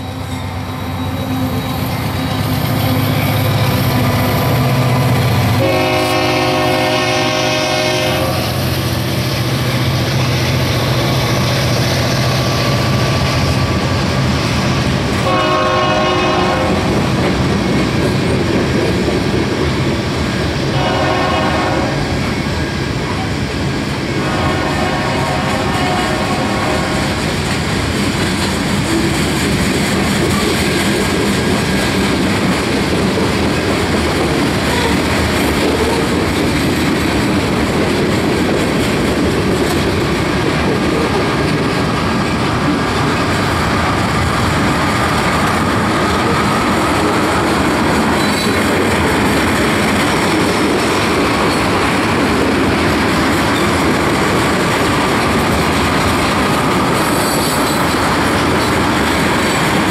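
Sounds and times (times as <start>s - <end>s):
steel wheels rolling on rails: 0.0s - 59.9s.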